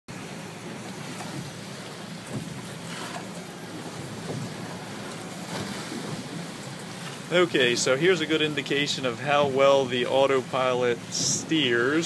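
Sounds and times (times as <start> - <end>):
outboard motor humming: 0.1 - 12.0
water washing against hull: 0.1 - 12.0
wind: 0.1 - 12.0.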